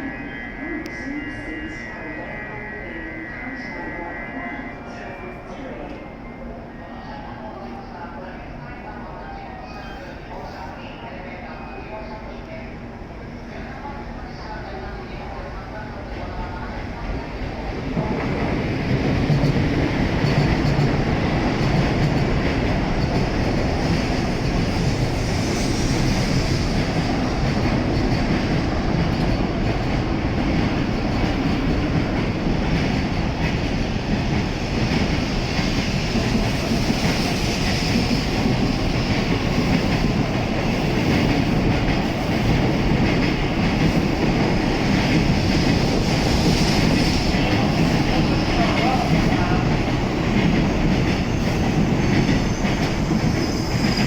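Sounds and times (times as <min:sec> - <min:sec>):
train rumble and rail noise: 0:00.0 - 0:54.0.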